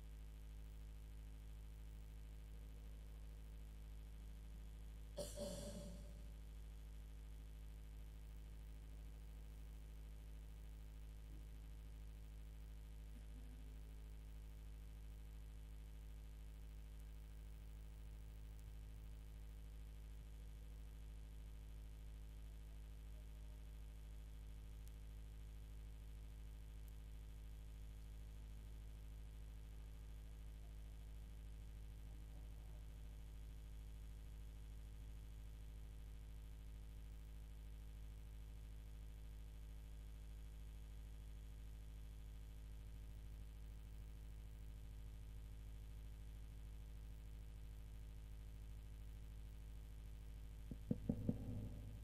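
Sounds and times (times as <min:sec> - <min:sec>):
faint electrical hum: 0:00.0 - 0:52.0.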